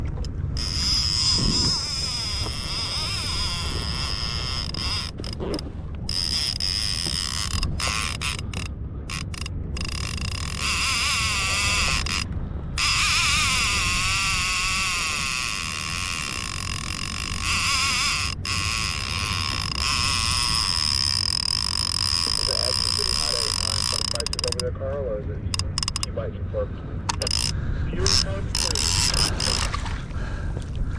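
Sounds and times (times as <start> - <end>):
low steady rumble: 0.0 - 30.9
fishing reel drag buzzing: 0.6 - 24.7, 25.5 - 26.1, 27.1 - 30.0.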